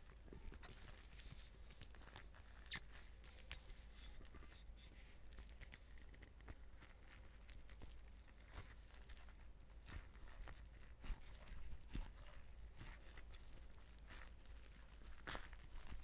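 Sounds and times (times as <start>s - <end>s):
rubber gloves crackling and rubbing: 0.0s - 16.0s.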